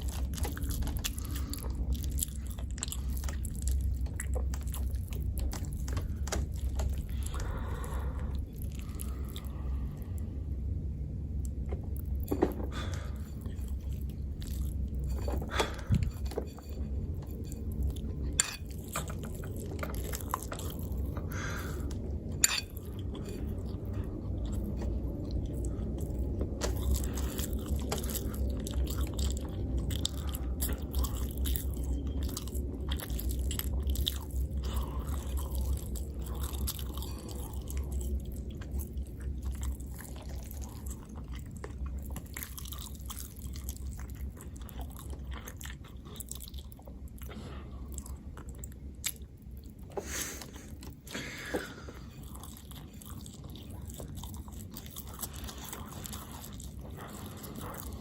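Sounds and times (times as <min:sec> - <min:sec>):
chewing food: 0:00.0 - 0:58.0
low hum: 0:00.0 - 0:58.0.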